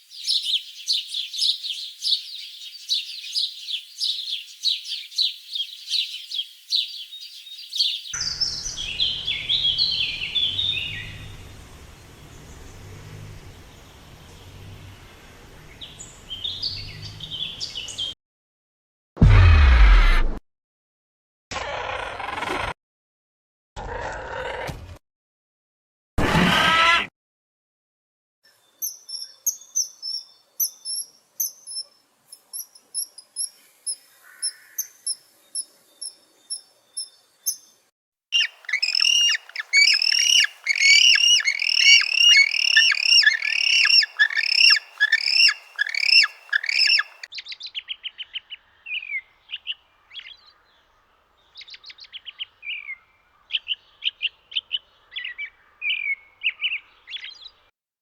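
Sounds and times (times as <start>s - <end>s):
bird chirping: 0.0s - 14.8s, 15.6s - 18.2s, 28.5s - 57.6s.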